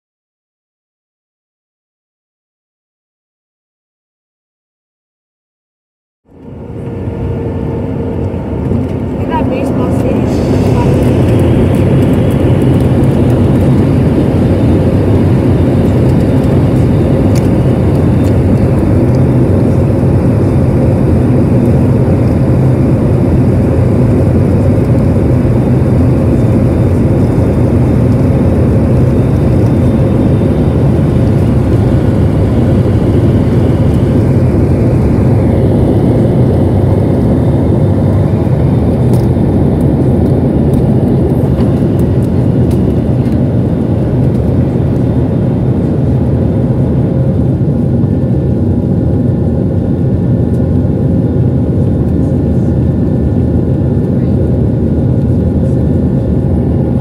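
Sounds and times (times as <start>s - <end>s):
jet engine roar inside cabin: 6.3s - 57.0s.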